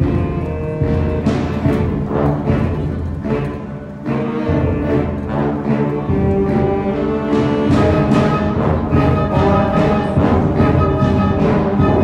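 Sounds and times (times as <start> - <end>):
percussion strokes: 0.0 - 12.0
wind band holding chords: 0.0 - 12.0.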